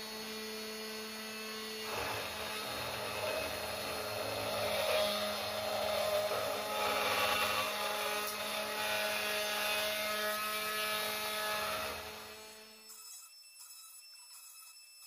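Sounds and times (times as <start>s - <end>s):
router spindle motor whining: 0.0s - 15.0s.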